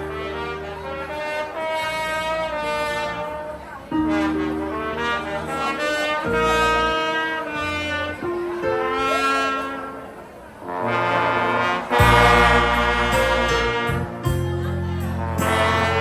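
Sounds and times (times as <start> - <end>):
brass band playing chords: 0.0 - 16.0.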